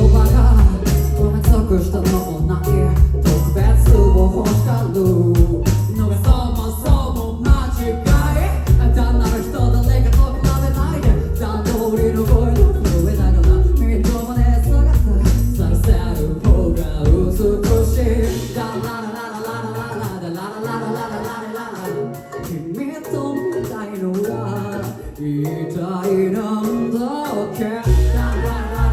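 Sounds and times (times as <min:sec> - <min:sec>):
live rock band: 0:00.0 - 0:28.9
person singing: 0:00.0 - 0:28.9.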